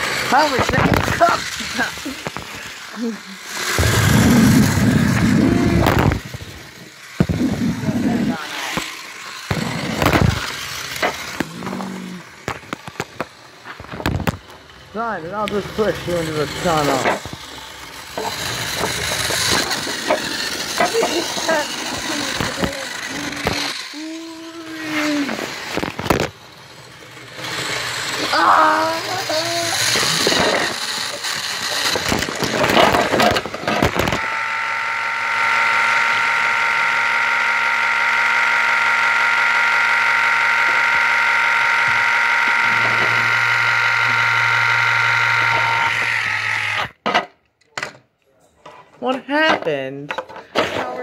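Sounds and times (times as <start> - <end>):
toy train rumbling: 0.0 - 47.0.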